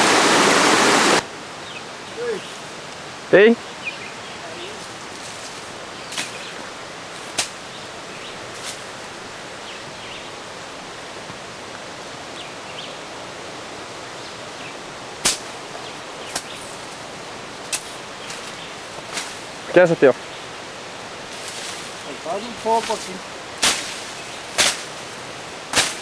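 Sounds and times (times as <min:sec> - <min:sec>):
steady outdoor hiss: 0:00.0 - 0:26.0.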